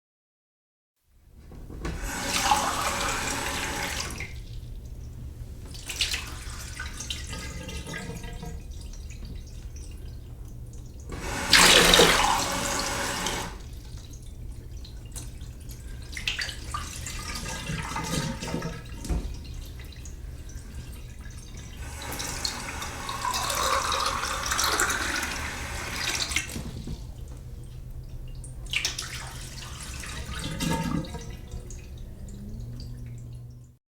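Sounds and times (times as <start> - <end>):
tap water running into glass: 2.0 - 4.4, 5.8 - 27.9, 28.8 - 33.5.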